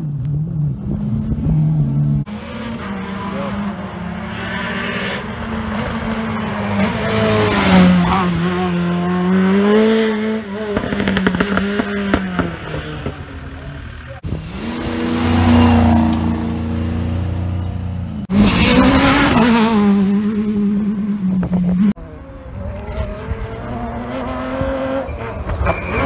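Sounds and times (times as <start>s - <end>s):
rally car engine passing: 0.4s - 26.0s.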